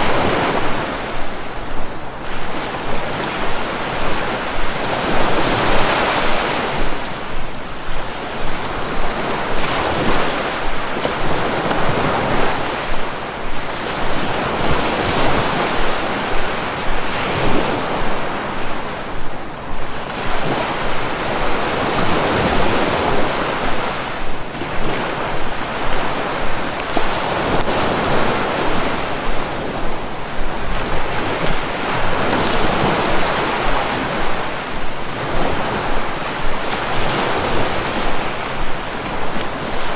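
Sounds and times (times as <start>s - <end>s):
sea waves breaking: 0.0s - 39.9s
wind noise on microphone: 0.0s - 39.9s.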